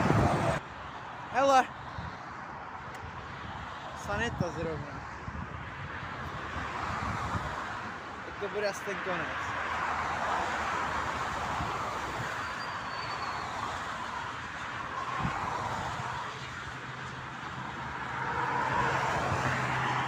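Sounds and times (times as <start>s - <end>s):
tyre and wind noise of traffic: 0.0s - 20.0s.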